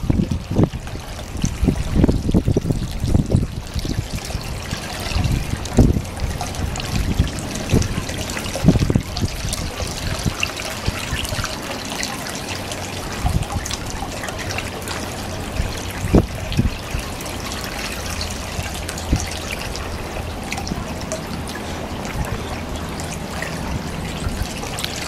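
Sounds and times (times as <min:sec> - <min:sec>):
water trickling from scupper: 0:00.0 - 0:25.0.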